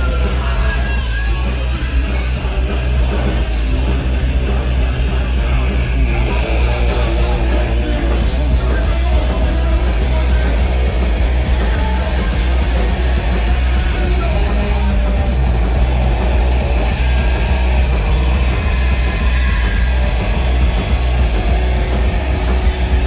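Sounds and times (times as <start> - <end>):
live punk rock band: 0.0 - 23.0.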